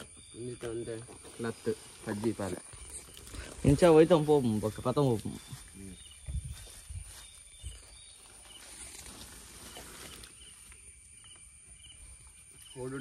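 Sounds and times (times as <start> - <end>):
wildlife chirps: 0.0 - 13.0.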